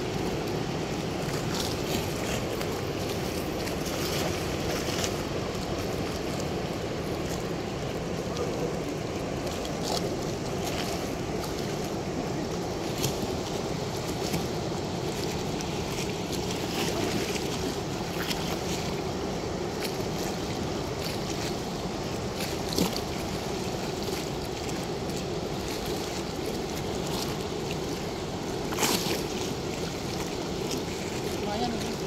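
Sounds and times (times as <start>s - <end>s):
water rushing through sluice gate: 0.0s - 32.0s.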